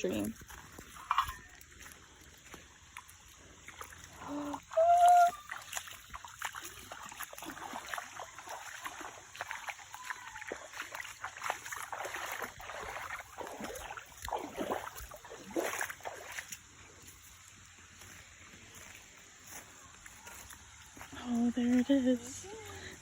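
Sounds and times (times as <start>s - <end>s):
running water hiss: 0.0s - 23.0s
splashing footsteps in a stream: 0.0s - 23.0s.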